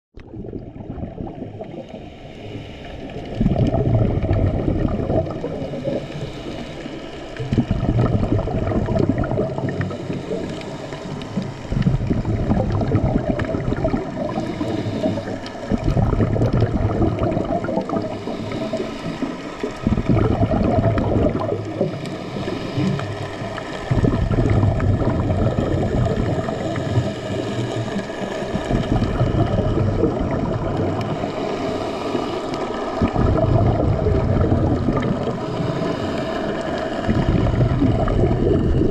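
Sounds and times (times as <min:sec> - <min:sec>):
underwater diver exhaling bubbles: 0:00.2 - 0:38.9.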